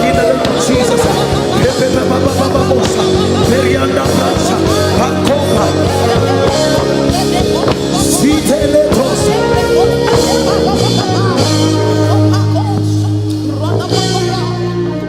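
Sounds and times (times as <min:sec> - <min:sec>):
church band worship music: 0:00.0 - 0:15.0
voices singing or praying: 0:00.0 - 0:15.0.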